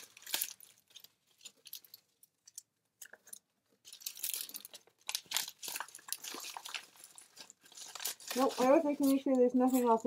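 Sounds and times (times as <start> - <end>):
padded envelope crinkling: 0.0 - 10.0.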